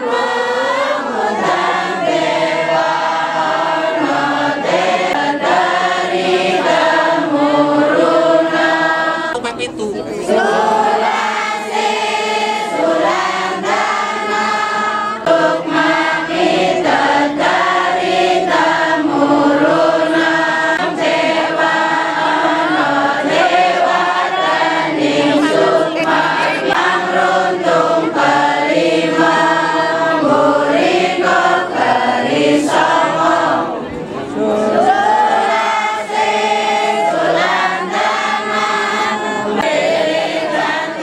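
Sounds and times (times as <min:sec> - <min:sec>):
group of voices singing a chant: 0:00.0 - 0:41.0.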